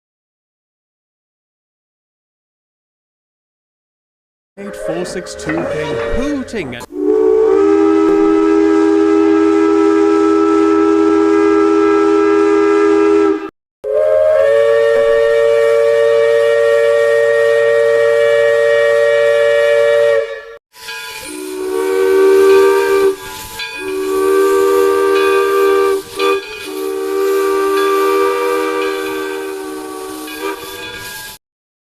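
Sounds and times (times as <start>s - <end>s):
steam locomotive chime whistle: 4.6s - 31.4s.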